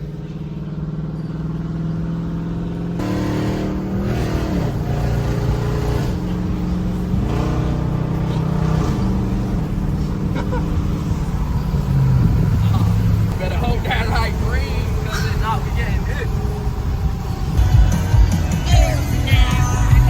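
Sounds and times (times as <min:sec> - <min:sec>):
pickup truck engine revving: 0:00.0 - 0:20.0.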